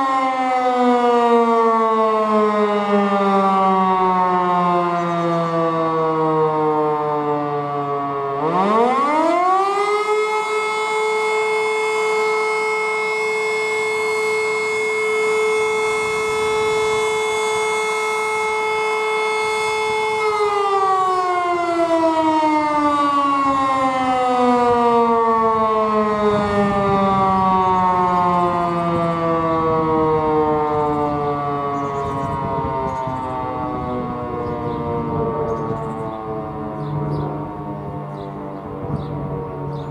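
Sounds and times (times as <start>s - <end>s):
electromechanical siren wailing: 0.0s - 39.9s.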